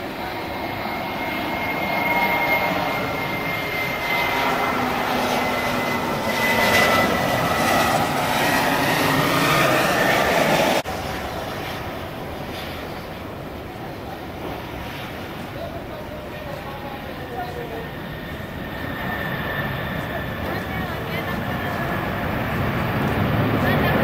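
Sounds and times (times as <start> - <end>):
jet engines rumbling and whining: 0.0 - 24.0
quieter steady jet noise: 0.0 - 24.0.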